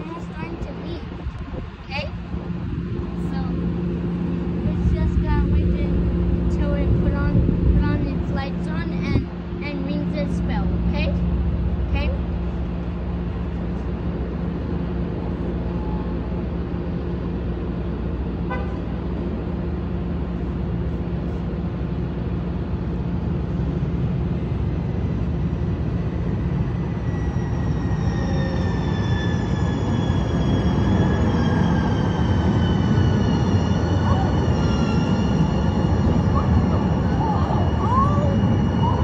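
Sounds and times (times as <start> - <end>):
high falling train whine: 0.0 - 39.0
train rumble: 0.0 - 39.0.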